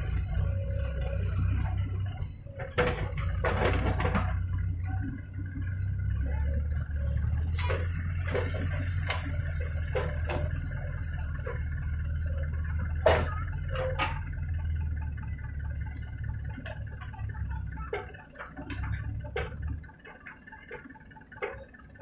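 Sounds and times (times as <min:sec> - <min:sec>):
backhoe digging and dumping soil: 0:00.0 - 0:22.0
diesel engine running: 0:00.0 - 0:22.0
metal clanks and knocks: 0:00.0 - 0:22.0.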